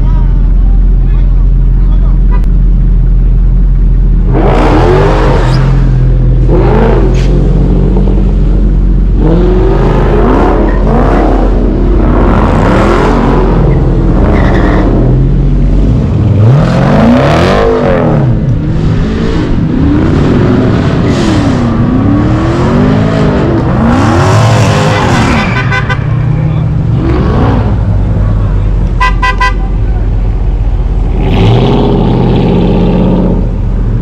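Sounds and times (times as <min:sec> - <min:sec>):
engines revving: 0:00.0 - 0:34.0.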